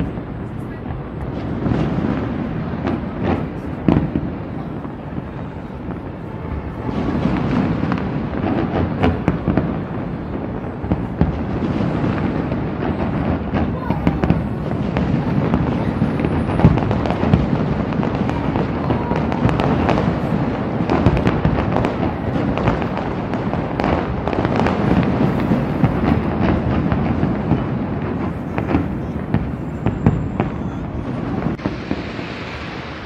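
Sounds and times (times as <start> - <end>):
fireworks bangs and crackles: 0.0 - 33.0
fireworks rumble: 0.0 - 33.0.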